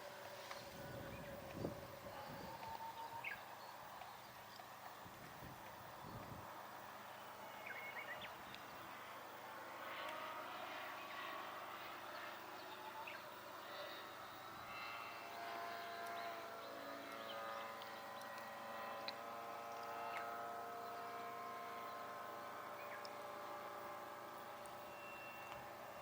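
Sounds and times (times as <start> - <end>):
distant model airplane motor drone: 0.0 - 26.0.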